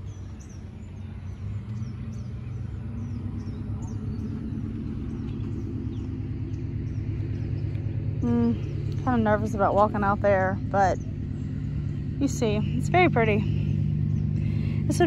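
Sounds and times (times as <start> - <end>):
bird chirping: 0.0 - 15.0
engine running: 0.0 - 15.0.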